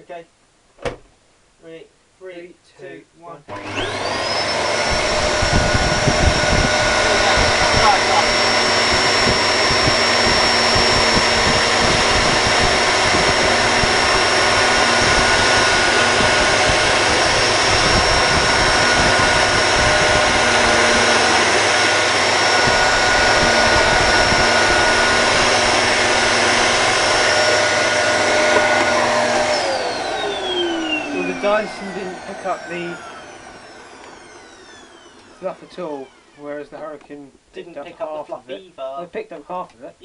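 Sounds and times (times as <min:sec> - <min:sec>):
vacuum cleaner running: 0:03.5 - 0:37.0.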